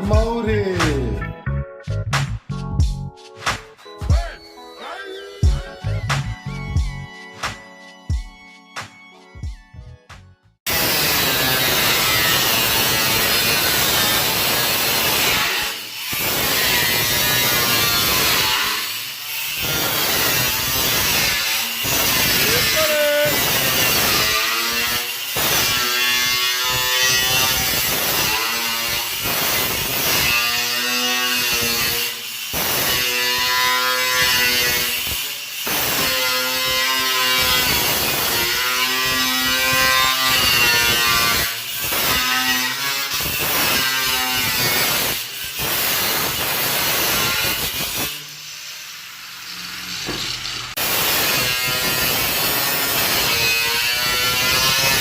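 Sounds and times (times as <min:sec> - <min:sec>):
power saw cutting sheet metal: 0:10.7 - 0:55.0.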